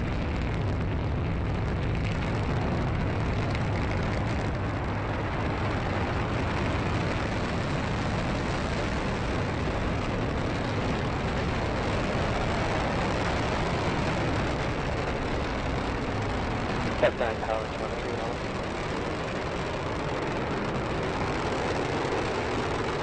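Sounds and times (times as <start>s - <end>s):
rocket engines roaring: 0.0s - 23.0s.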